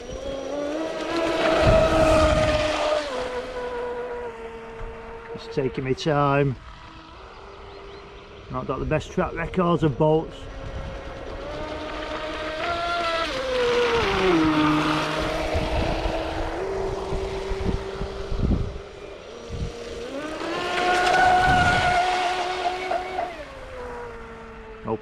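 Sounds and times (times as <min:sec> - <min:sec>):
rc boat electric motor whining: 0:00.0 - 0:25.0.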